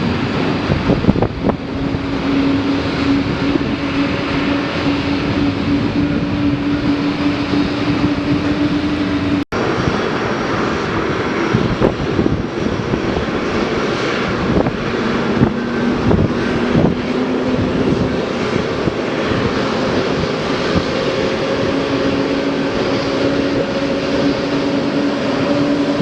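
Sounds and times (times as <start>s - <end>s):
jet engines running: 0.0s - 26.0s
steady droning tone: 0.0s - 26.0s.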